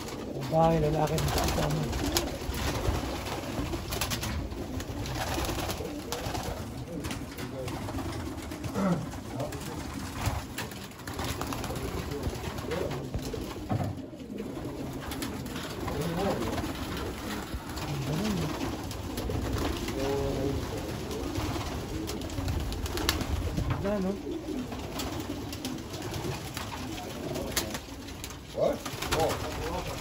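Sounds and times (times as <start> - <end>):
pigeons cooing: 0.0 - 30.0
wings fluttering: 0.0 - 30.0.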